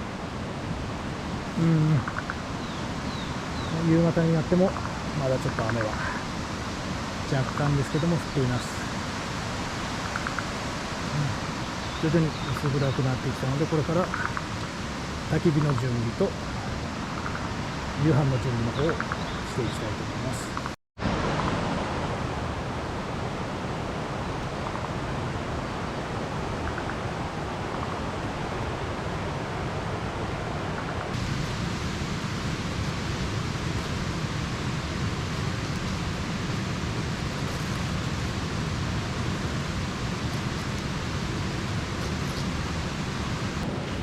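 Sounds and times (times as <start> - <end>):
light rain falling: 0.0 - 44.0.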